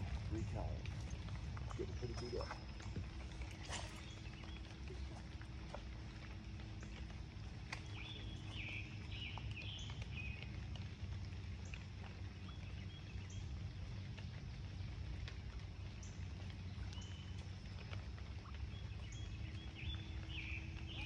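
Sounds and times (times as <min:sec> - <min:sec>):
birds chirping: 0:00.0 - 0:14.0, 0:15.8 - 0:21.0
steady low rumble: 0:00.0 - 0:21.0.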